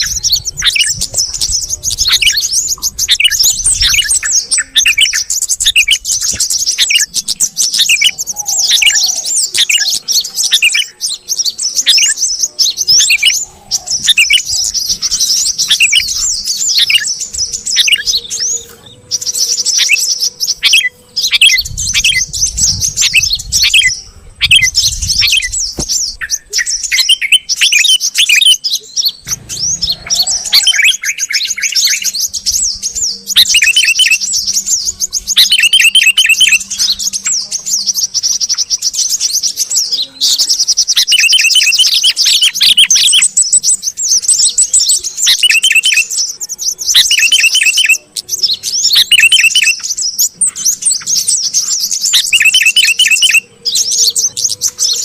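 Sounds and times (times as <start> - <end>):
bulbuls chirping and chattering: 0.0 - 55.0.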